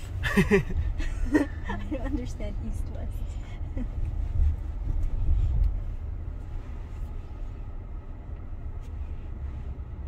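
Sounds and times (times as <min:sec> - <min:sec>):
tyre and road noise in a car: 0:00.0 - 0:10.0.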